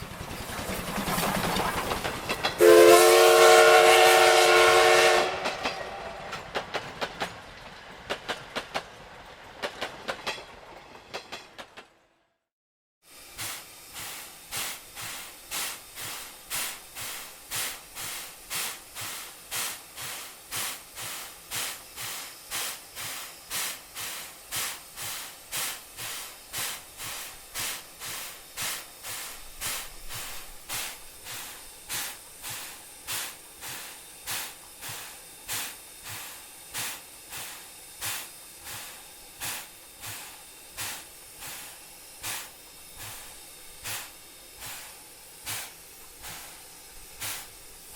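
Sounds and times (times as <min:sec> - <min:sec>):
steam hissing: 0:00.0 - 0:07.4, 0:13.0 - 0:47.9
steam locomotive chuffing: 0:00.0 - 0:11.9, 0:13.0 - 0:47.9.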